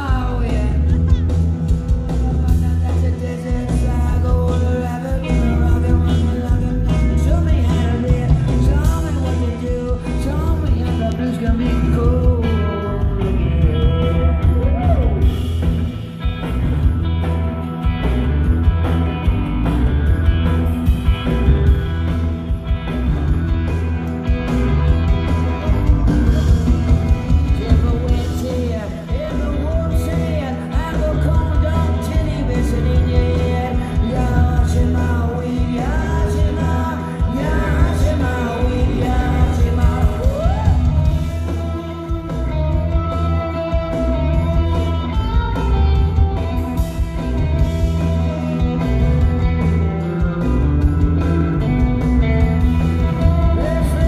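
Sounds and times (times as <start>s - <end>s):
person singing lead vocal: 0.0s - 15.9s, 25.1s - 54.0s
live rock band: 0.0s - 54.0s.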